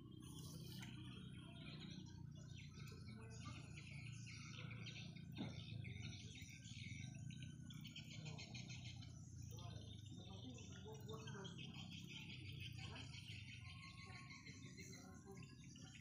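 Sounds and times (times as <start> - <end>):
small birds chirping faintly: 0.0 - 16.0.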